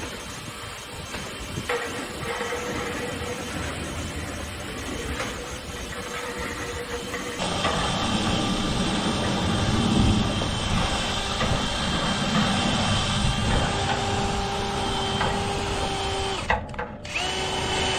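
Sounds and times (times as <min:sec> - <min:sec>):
motor hum and hiss: 0:00.0 - 0:17.9
steady whine: 0:00.0 - 0:17.9.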